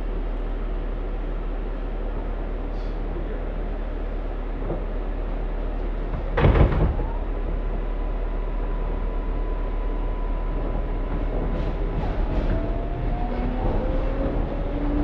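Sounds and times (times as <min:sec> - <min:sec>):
subway train equipment humming: 0:00.0 - 0:15.0.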